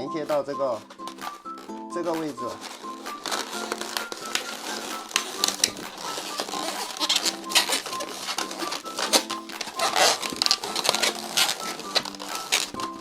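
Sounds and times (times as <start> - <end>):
balloons rubbing and squeaking: 0.0 - 13.0
light background music: 0.0 - 13.0.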